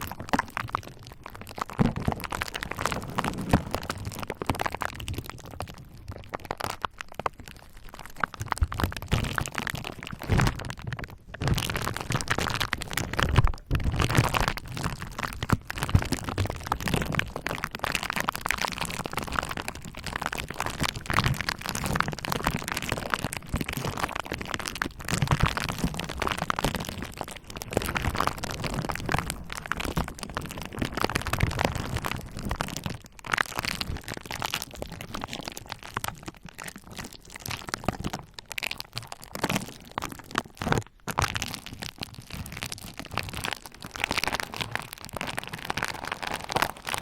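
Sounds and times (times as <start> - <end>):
bubble wrap popping: 6.6 - 47.0.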